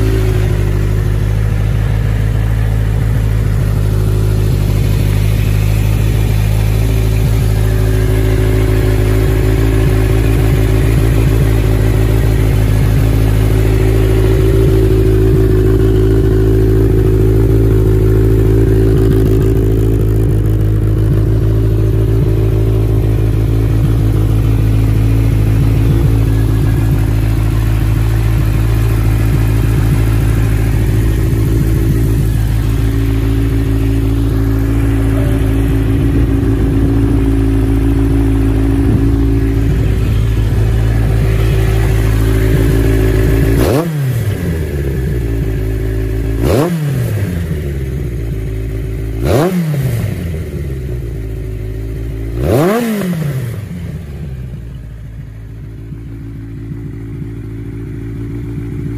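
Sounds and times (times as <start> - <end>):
motorcycle engine idling and revving: 0.0 - 58.9.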